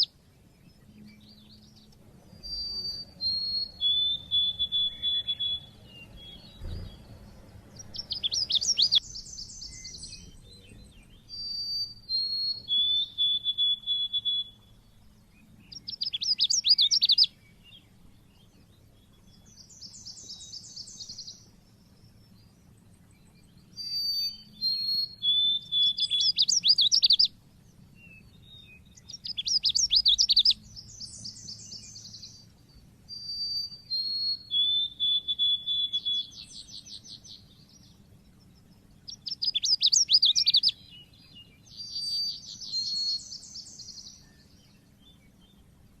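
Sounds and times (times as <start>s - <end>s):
bird singing whistles and chirps: 0.0s - 45.8s
faint low hum: 0.0s - 46.0s.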